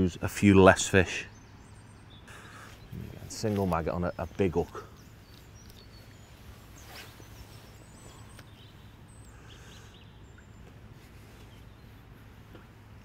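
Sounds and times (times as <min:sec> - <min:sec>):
steady low hum: 0:00.2 - 0:13.0
faint high bird chirps: 0:01.2 - 0:12.3.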